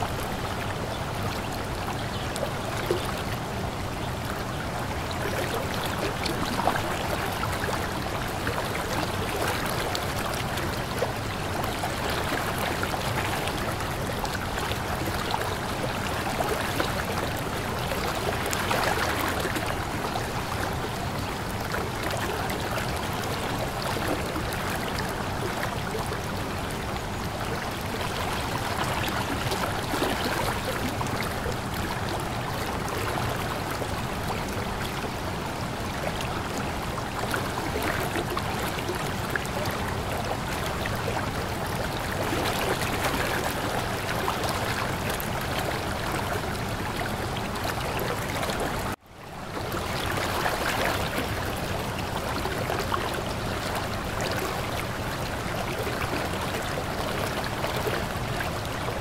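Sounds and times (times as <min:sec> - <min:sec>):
river water babbling over pebbles: 0:00.0 - 0:59.0
small splashes and trickles: 0:00.0 - 0:59.0.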